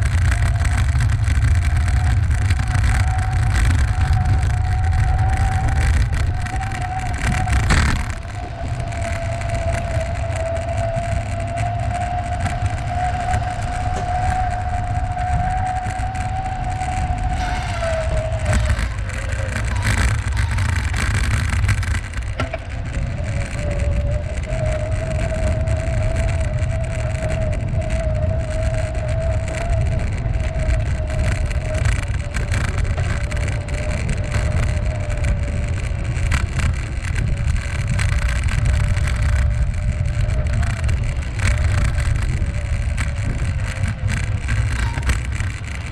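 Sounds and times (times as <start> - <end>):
ride whine: 0.0 - 45.9
wind buffeting microphone: 0.0 - 45.9.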